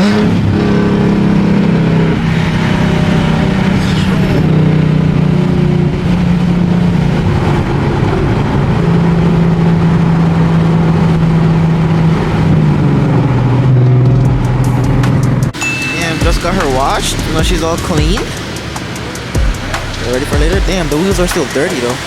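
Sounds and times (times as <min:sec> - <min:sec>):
loud car engine exhaust: 0:00.0 - 0:22.0.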